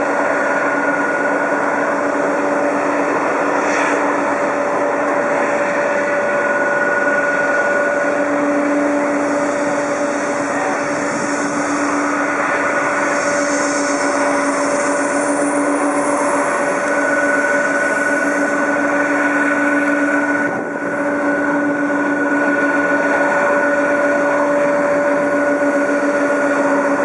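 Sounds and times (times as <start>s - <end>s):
jet engines idling with whine: 0.0s - 27.0s.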